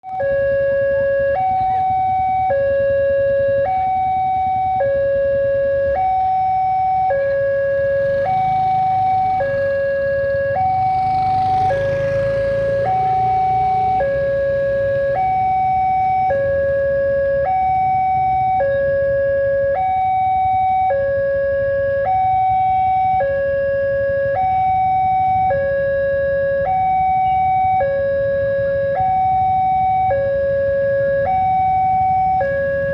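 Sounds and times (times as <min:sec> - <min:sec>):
level crossing two-tone alarm: 0:00.1 - 0:32.9.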